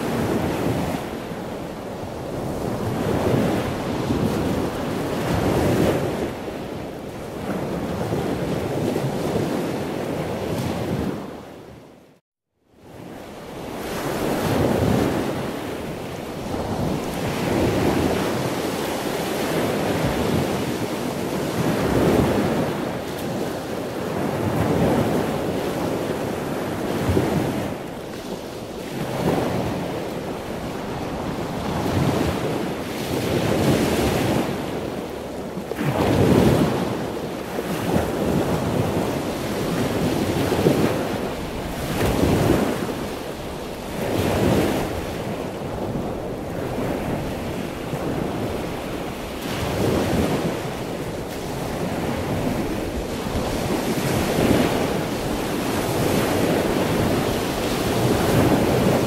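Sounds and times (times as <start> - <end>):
sea waves breaking: 0.0 - 11.7, 12.8 - 59.0.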